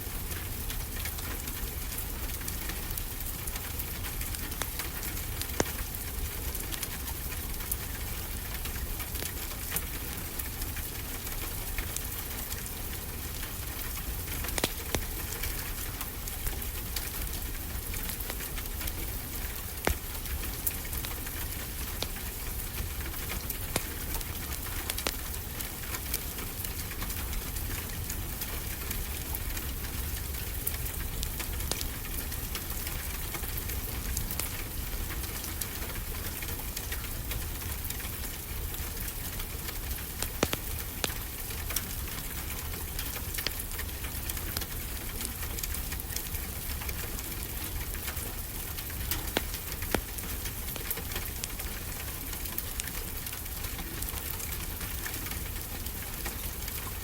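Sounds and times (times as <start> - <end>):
rain falling: 0.0 - 57.0
wood fire crackling: 0.0 - 57.0.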